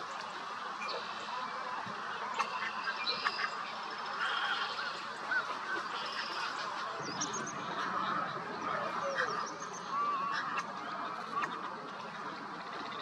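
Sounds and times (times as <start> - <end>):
many birds calling: 0.0 - 13.0.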